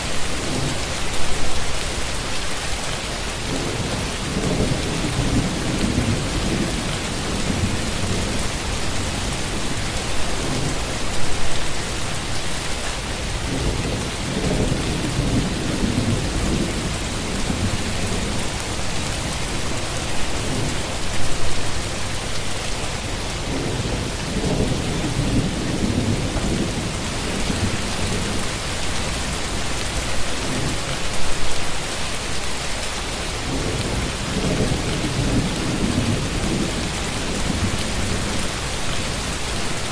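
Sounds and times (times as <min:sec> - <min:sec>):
heavy rain falling: 0:00.0 - 0:39.9
low thunder rumbles: 0:03.4 - 0:12.5, 0:13.2 - 0:22.4, 0:23.2 - 0:31.6, 0:33.4 - 0:39.9.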